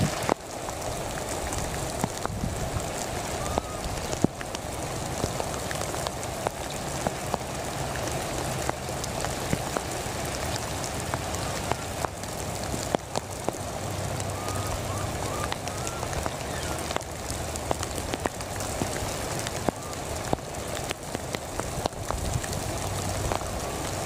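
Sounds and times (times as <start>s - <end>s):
heavy rain falling: 0.0s - 24.0s
sharp single raindrops: 0.0s - 24.0s.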